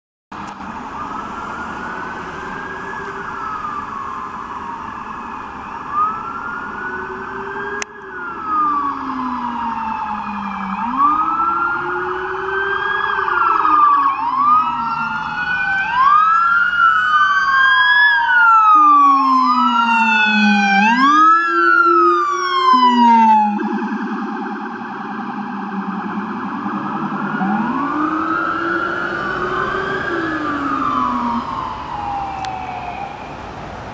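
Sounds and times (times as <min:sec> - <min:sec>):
police sirens wailing: 0:00.4 - 0:33.9
low-frequency siren sweeping: 0:00.5 - 0:33.8.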